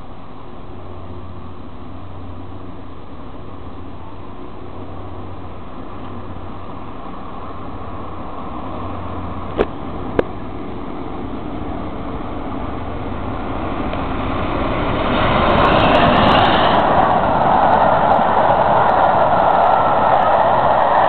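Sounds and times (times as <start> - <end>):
steam locomotive passing at speed: 0.0 - 21.0.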